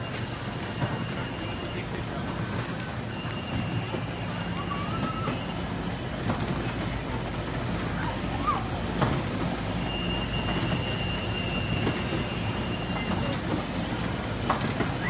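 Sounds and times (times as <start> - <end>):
carousel mechanical rumble: 0.0 - 15.0.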